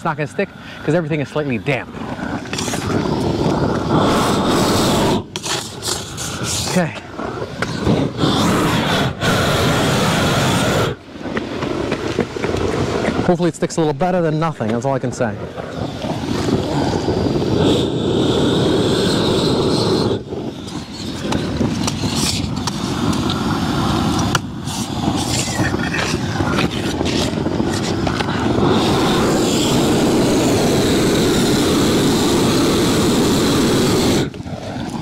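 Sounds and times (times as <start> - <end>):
roofing torch flame rushing: 0.0 - 35.0.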